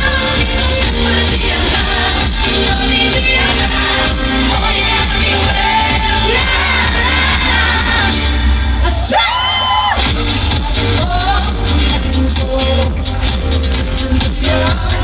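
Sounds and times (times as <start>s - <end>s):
live pop music with bass beat: 0.0s - 15.0s
woman singing: 0.0s - 15.0s.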